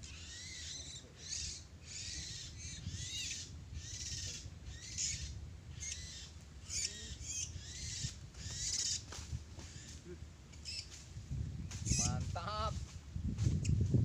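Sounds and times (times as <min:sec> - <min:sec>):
bird harsh scratchy calls: 0:00.0 - 0:10.0, 0:10.6 - 0:11.0, 0:11.7 - 0:12.8.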